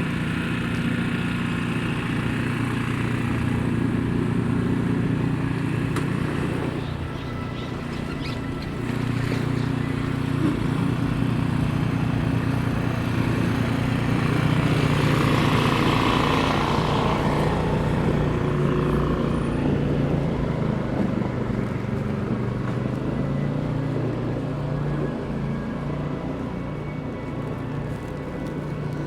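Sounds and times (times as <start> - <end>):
heavy engine idling: 0.0 - 29.0
vehicle passing by: 2.3 - 29.0.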